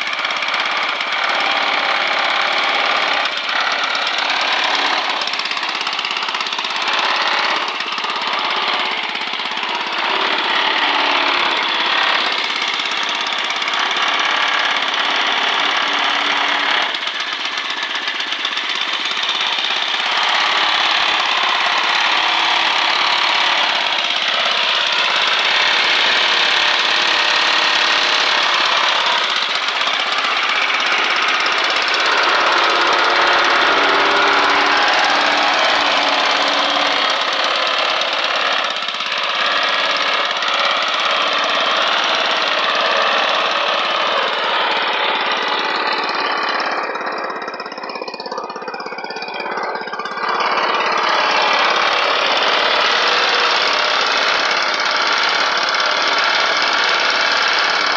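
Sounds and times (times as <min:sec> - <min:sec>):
small gasoline engine idling: 0:00.0 - 0:57.9.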